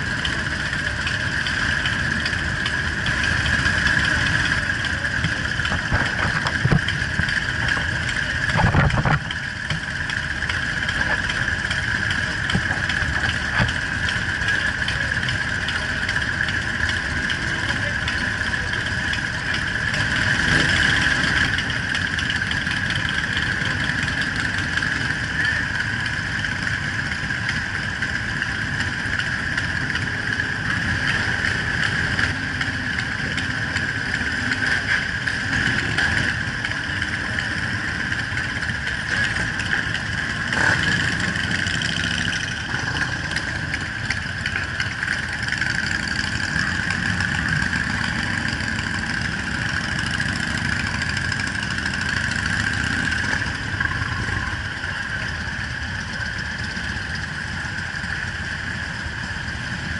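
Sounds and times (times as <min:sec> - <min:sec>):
motorcycle engines idling: 0:00.0 - 0:59.9.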